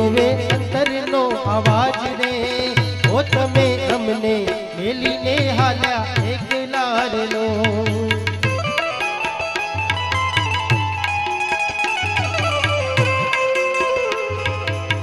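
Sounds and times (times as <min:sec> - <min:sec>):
harmonium: 0:00.0 - 0:15.0
plucked banjo melody: 0:00.0 - 0:15.0
tabla rhythm: 0:00.0 - 0:15.0.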